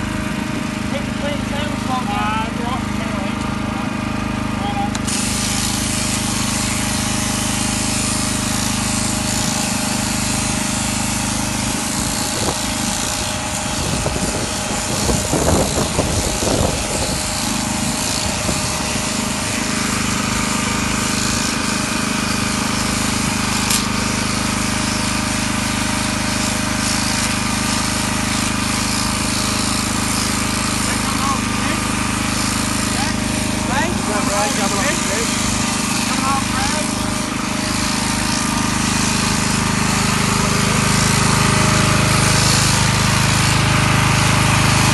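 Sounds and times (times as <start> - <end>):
shearing handpiece buzzing: 0.0 - 44.9.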